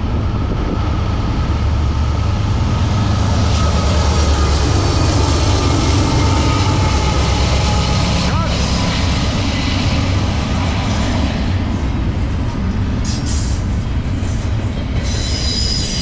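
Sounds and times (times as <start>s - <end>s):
locomotive engine rumble: 0.0s - 15.4s
train wheels on rail: 0.0s - 16.0s.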